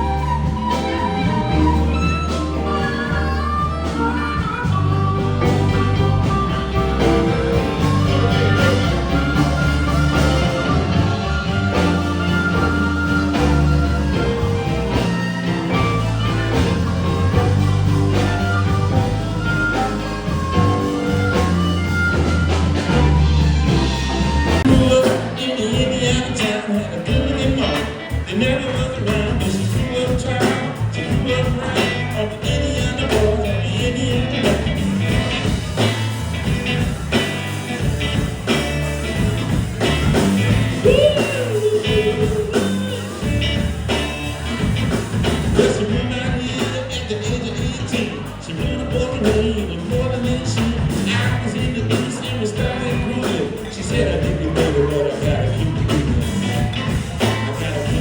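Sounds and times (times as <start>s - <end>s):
bass: 0.0s - 58.0s
drums: 0.0s - 58.0s
guitar: 0.0s - 58.0s
rock and roll band playing: 0.0s - 58.0s.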